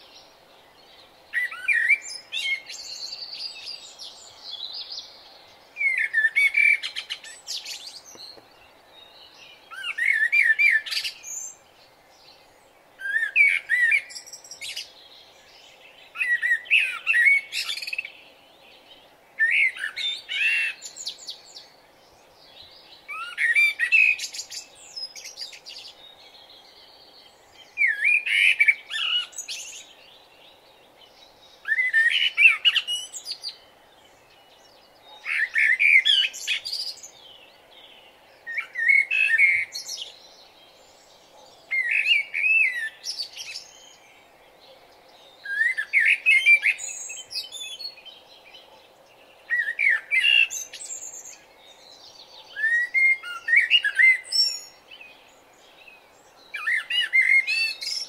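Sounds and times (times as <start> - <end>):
songbird chirping phrases: 0.0 - 58.0.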